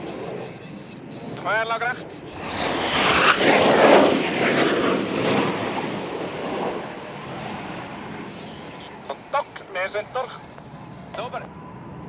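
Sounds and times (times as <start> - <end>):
aircraft engine passing by: 0.0 - 12.0.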